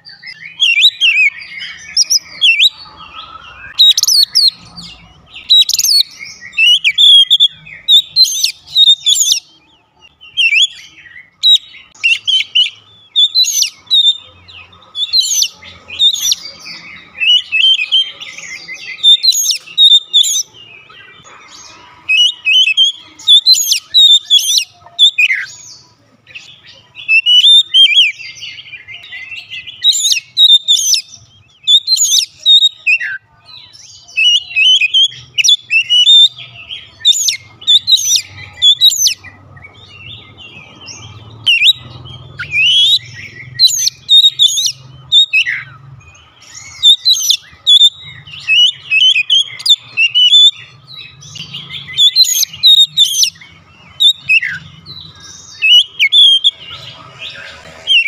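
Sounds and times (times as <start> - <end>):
bird singing whistles and chirps: 0.0 - 58.0.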